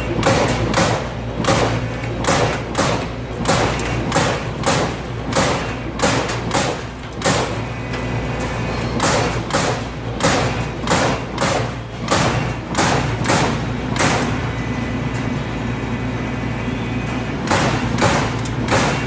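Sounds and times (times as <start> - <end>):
punch press punching sheet metal: 0.0 - 14.7, 17.4 - 19.0
steady machine hum: 0.0 - 19.0.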